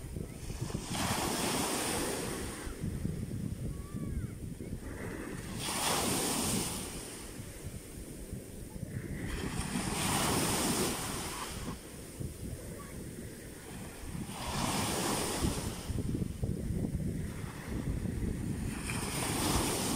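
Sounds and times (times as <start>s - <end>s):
waves breaking on shore: 0.0s - 19.9s
wind rumbling on microphone: 0.0s - 19.9s.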